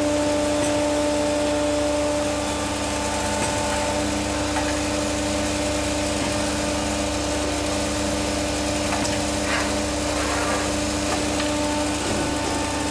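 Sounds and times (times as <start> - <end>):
machine hum: 0.0 - 12.9.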